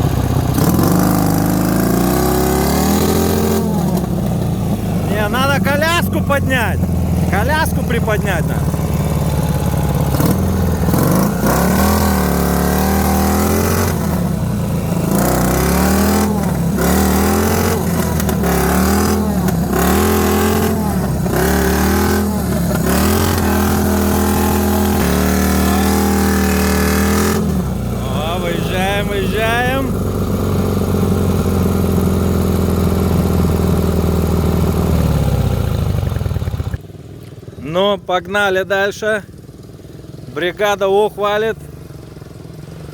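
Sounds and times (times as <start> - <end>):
motorcycle engine revving: 0.0 - 37.6, 41.6 - 42.9.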